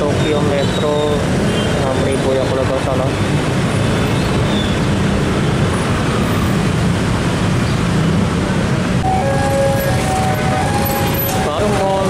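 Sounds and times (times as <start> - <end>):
motorcycle and car engines: 0.0 - 12.0.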